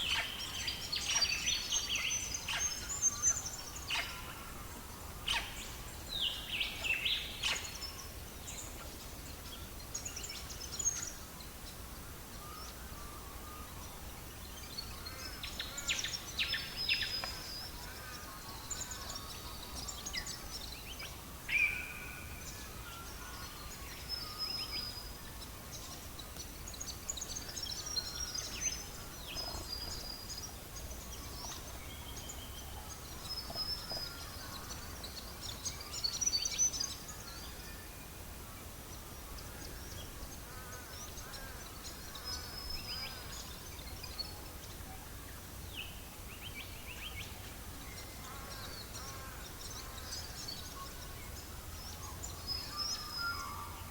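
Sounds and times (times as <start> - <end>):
low background noise: 0.0 - 53.9.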